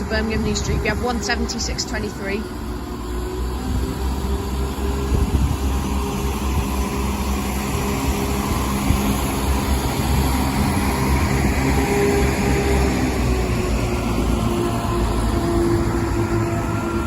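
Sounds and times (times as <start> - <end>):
diesel train engines humming: 0.0 - 17.0.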